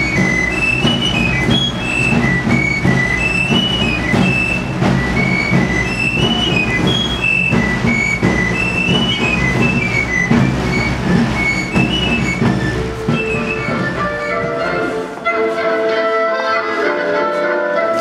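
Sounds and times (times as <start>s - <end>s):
steady drum beat: 0.0s - 15.2s
high quick pipe melody: 0.0s - 18.0s.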